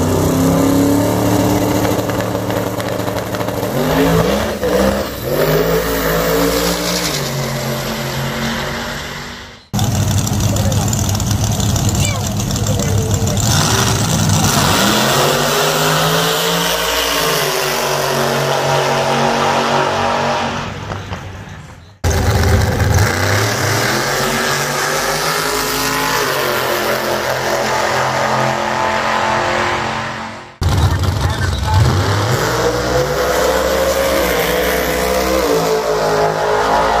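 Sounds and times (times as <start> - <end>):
drag racing cars accelerating: 0.0 - 37.0.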